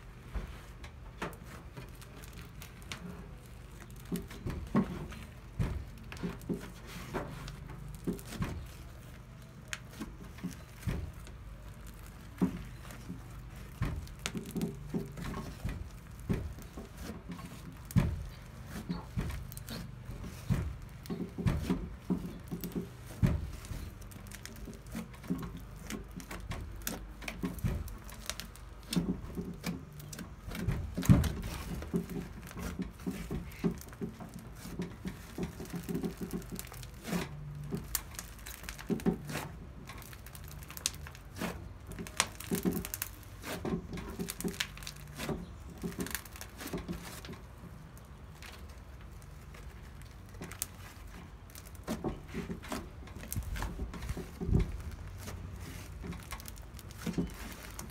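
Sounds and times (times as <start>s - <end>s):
hands squishing slime: 1.3s - 57.9s.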